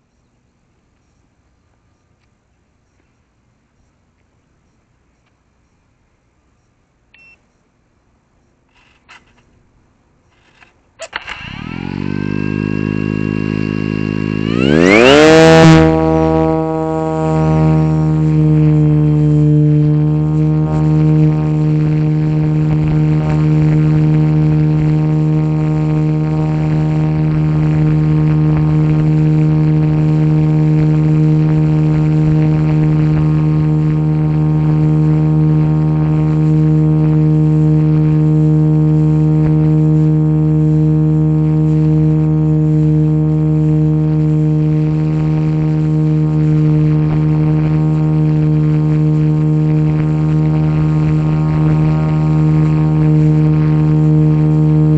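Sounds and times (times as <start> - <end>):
model helicopter whine: 10.5 - 54.9.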